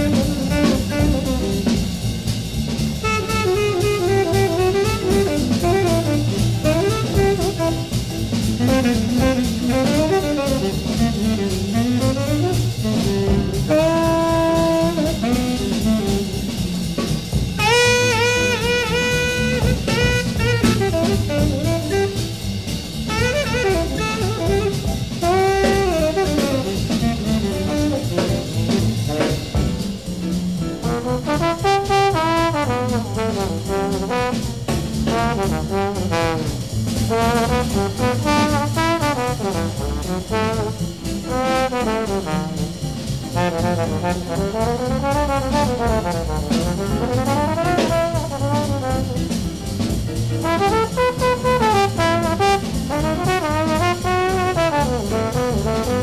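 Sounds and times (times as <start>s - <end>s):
trombone solo: 0.0s - 30.1s, 30.8s - 56.0s
bass: 0.0s - 56.0s
drums: 0.0s - 56.0s.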